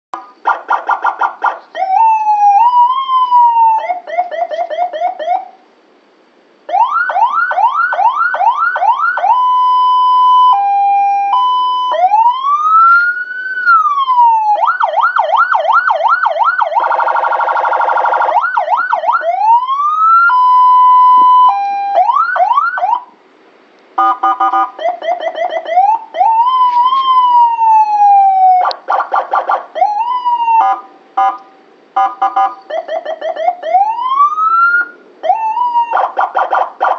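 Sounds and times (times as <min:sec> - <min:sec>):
electronic vehicle siren: 0:00.5 - 0:05.6, 0:06.7 - 0:23.1, 0:24.0 - 0:36.9.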